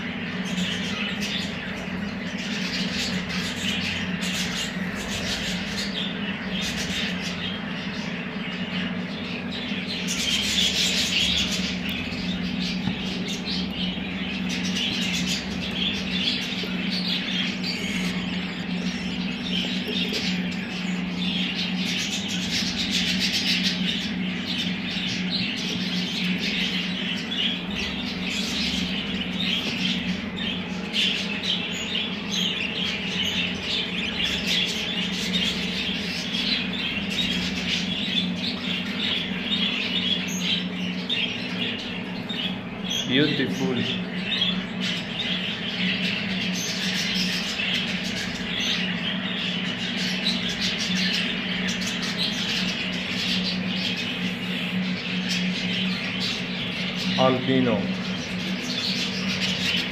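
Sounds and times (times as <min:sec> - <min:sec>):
budgerigars chattering and chirping: 0:00.0 - 0:59.9
steady low hum: 0:00.0 - 0:59.9.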